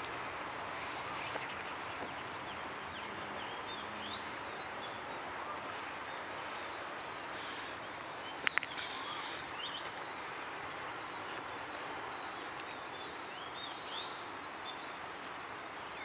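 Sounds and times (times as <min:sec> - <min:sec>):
birds chirping: 0:00.0 - 0:16.0
outdoor background hiss: 0:00.0 - 0:16.0.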